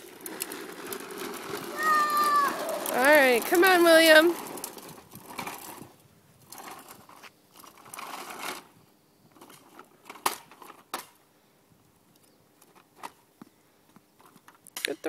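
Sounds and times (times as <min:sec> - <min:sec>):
plastic wheels rattling on asphalt: 0:00.0 - 0:11.3, 0:12.0 - 0:15.0.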